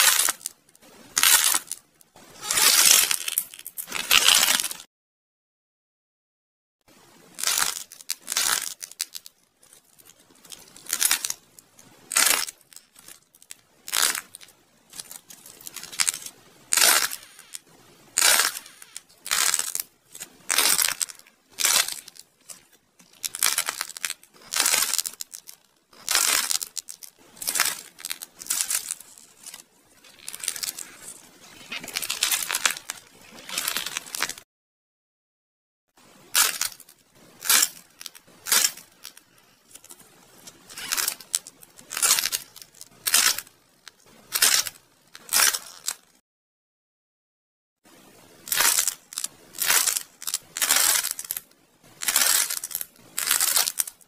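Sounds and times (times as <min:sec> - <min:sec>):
clay crunching and tearing: 0:02.4 - 0:04.8, 0:07.4 - 0:34.4, 0:36.3 - 0:46.1, 0:48.5 - 0:54.0.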